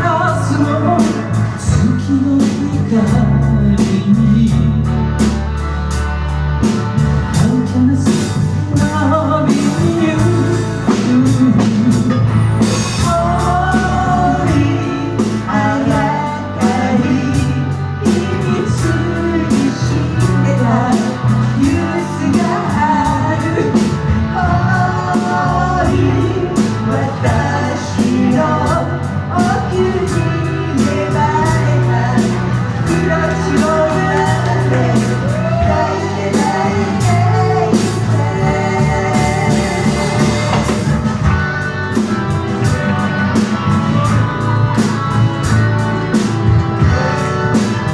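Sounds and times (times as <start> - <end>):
drum kit steady beat: 0.0 - 47.9
gliding lead melody: 0.0 - 47.9
live rock band playing: 0.0 - 47.9.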